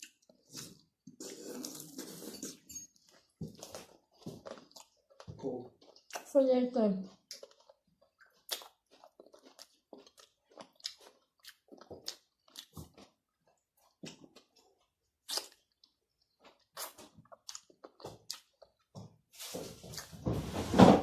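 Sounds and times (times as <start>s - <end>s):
chewing and crunching food: 0.0s - 20.2s.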